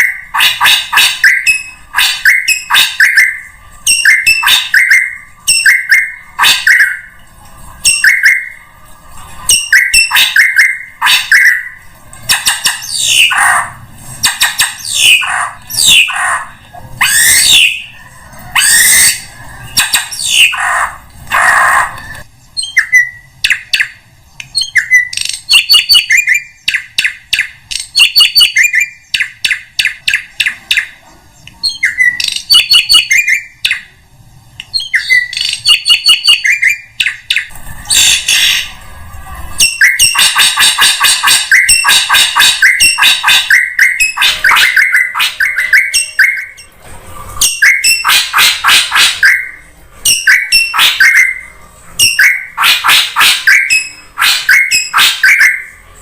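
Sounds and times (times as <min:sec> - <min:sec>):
bird chattering and whistles: 0:00.0 - 0:07.2, 0:07.8 - 0:08.6, 0:09.5 - 0:31.0, 0:31.6 - 0:33.9, 0:34.7 - 0:38.8, 0:39.6 - 0:46.7, 0:47.4 - 0:55.8
bird harsh rasping notes: 0:00.0 - 0:24.0, 0:34.7 - 0:56.0.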